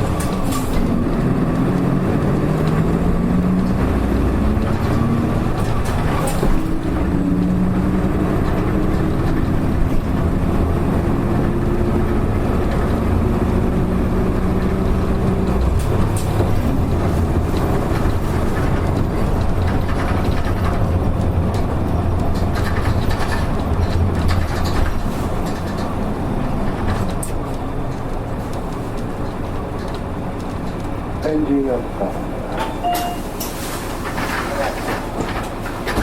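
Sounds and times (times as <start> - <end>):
bus engine rumbling with whine: 0.0 - 36.0.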